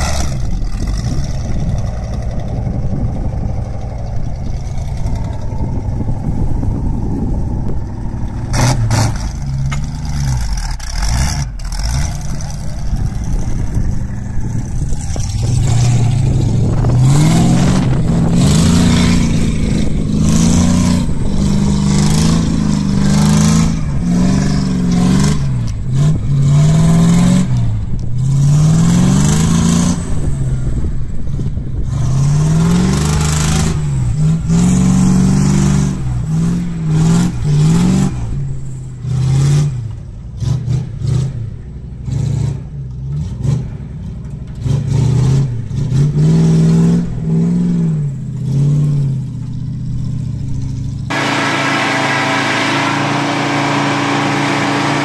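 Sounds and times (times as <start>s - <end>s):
truck engine revving under load: 0.0s - 55.0s.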